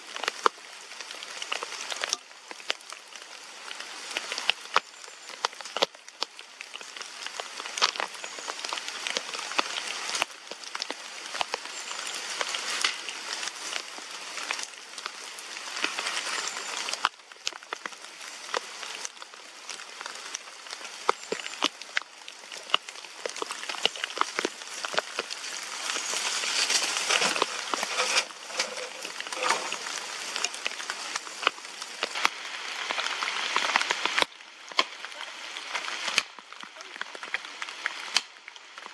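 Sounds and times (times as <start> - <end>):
rain pattering: 0.0 - 38.9
sharp clicks and crackles: 0.1 - 3.3, 4.1 - 38.9.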